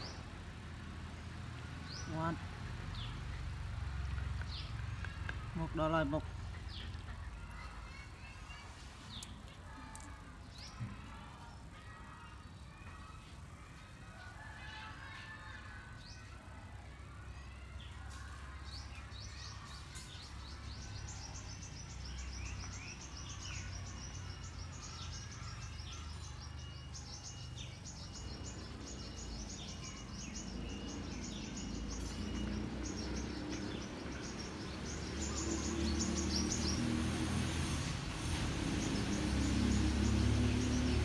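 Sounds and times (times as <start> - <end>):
birds chirping: 1.8 - 16.4, 18.6 - 41.0.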